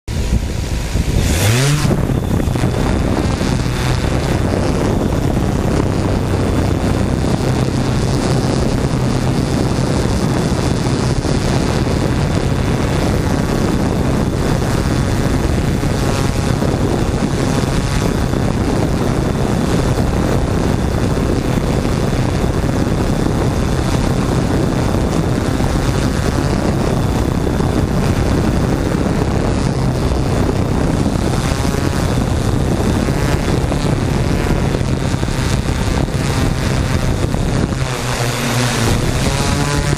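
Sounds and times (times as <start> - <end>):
drone propellers buzzing hum: 0.0 - 39.9.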